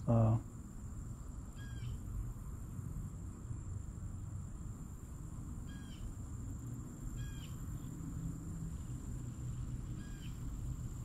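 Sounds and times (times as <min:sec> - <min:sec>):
high insect trill: 0:00.0 - 0:11.0.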